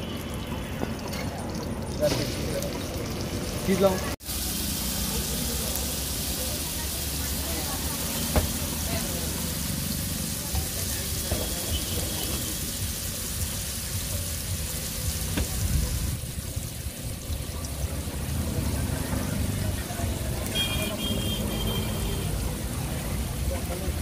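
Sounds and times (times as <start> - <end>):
oil sizzling on a griddle: 0.0 - 24.0
street traffic rumble: 0.0 - 24.0.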